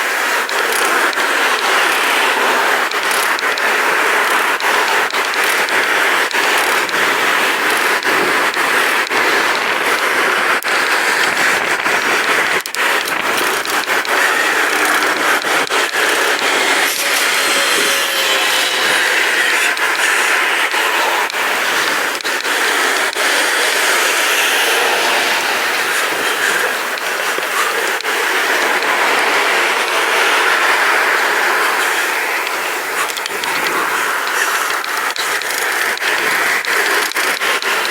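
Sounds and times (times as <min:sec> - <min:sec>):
small clicks and rattles: 0:00.0 - 0:37.9.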